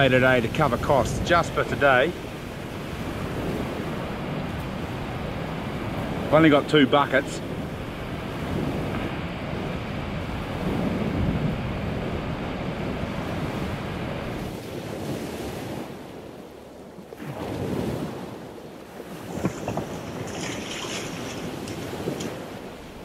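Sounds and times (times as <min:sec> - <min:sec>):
waves washing: 0:00.0 - 0:23.0
wind buffeting microphone: 0:00.0 - 0:23.0.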